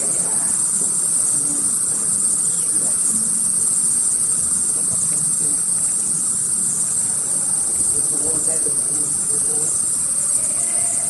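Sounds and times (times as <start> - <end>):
bats chattering: 0.0 - 11.0.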